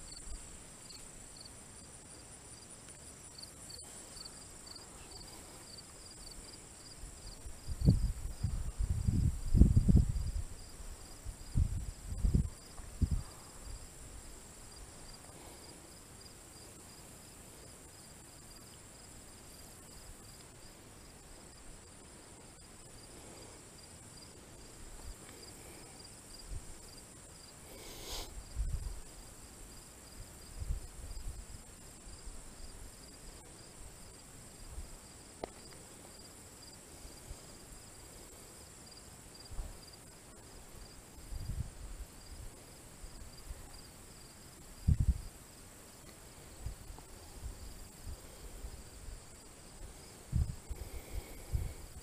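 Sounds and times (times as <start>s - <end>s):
insects buzzing: 0.0s - 52.0s
repeated cricket chirps: 0.0s - 52.0s.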